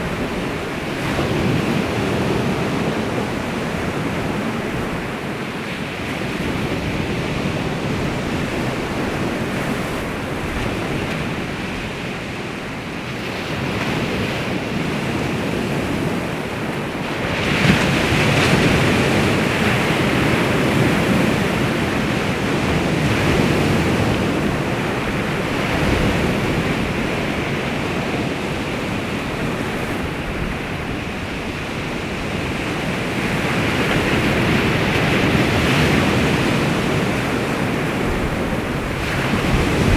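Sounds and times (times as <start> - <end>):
waves washing onto shore: 0.0 - 39.9
wind buffeting microphone: 0.0 - 39.9.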